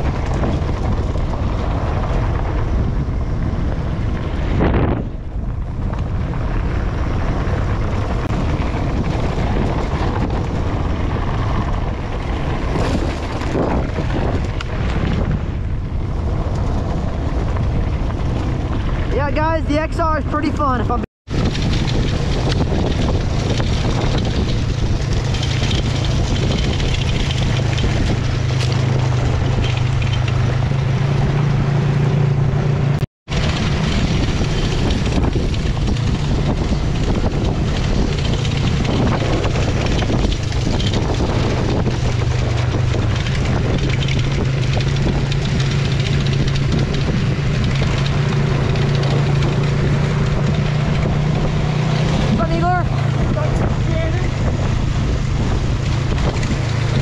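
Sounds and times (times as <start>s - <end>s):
dirt bike engine running: 0.0s - 57.0s
wind buffeting microphone: 0.0s - 57.0s.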